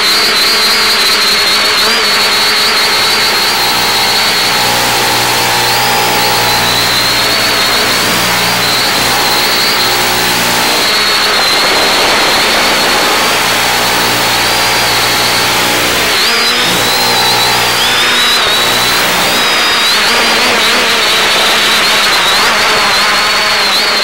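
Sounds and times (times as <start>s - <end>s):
electric motors whining: 0.0s - 24.0s
steady loud hiss: 2.9s - 23.5s.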